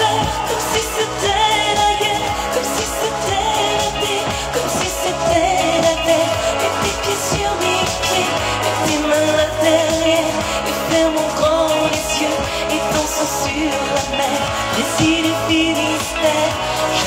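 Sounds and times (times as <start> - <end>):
pop instrumental with bass and drums: 0.0 - 17.0
woman singing into a microphone: 0.0 - 17.0.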